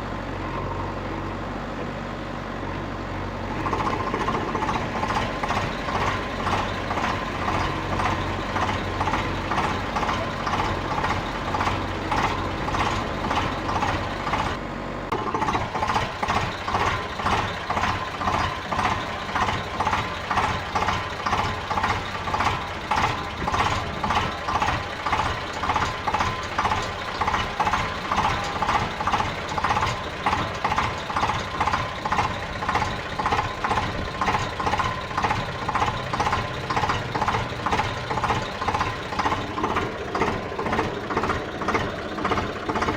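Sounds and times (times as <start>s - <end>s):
engine chugging rhythmically: 3.2s - 42.9s.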